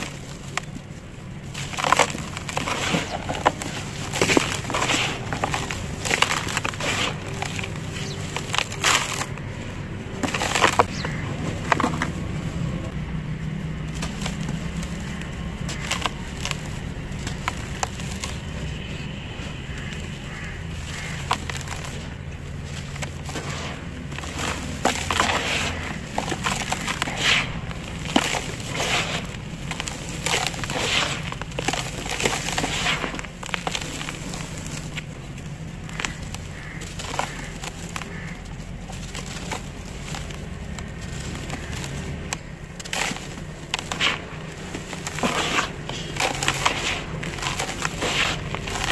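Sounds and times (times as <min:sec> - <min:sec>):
dry cement crumbling in hands: 0:00.0 - 0:13.0, 0:13.7 - 0:48.9.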